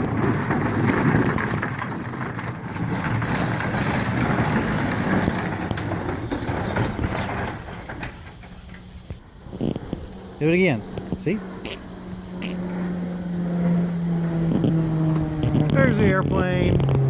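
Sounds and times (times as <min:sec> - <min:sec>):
plastic wheels rolling over pavement: 0:00.0 - 0:11.3, 0:14.5 - 0:17.0.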